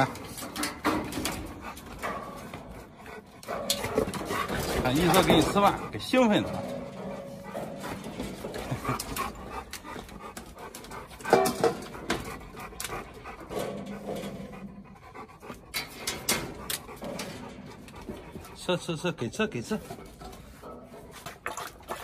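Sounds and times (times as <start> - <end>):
large dog panting: 0.0 - 22.0.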